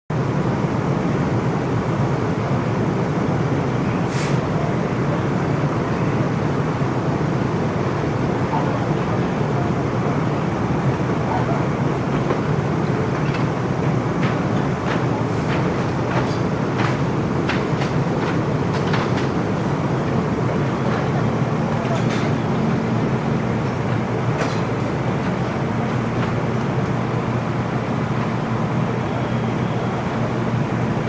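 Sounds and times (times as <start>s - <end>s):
fire engines droning: 0.1s - 31.0s.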